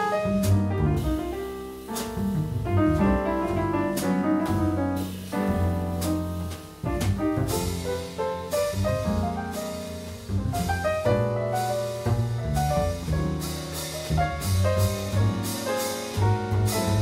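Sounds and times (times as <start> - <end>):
double bass notes: 0.0 - 17.0
jazz piano chords and runs: 0.0 - 17.0.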